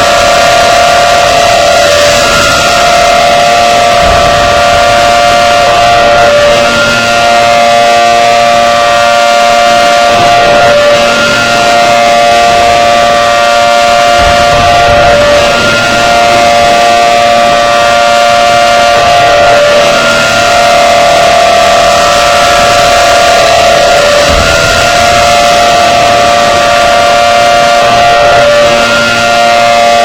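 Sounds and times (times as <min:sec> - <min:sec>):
outdoor warning siren steady tone: 0:00.0 - 0:30.0.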